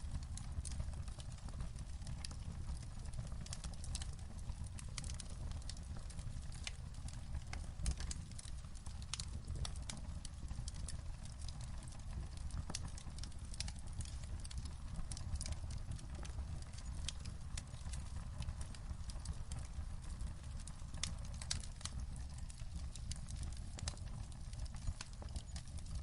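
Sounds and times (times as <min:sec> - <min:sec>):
low fire rumble: 0:00.0 - 0:26.0
wood fire pops and snaps: 0:00.0 - 0:26.0.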